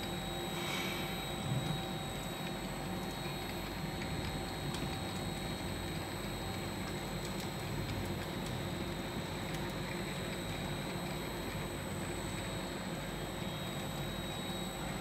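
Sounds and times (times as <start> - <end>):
conveyor machine humming: 0.0 - 15.0
faint irregular ticks: 1.2 - 14.9.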